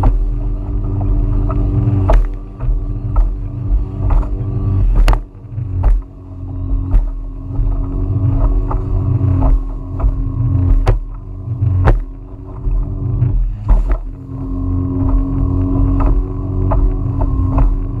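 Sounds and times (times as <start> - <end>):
hull slapping waves: 0.0 - 18.0
outboard motor running: 0.0 - 18.0
wind rumbling on microphone: 0.0 - 18.0.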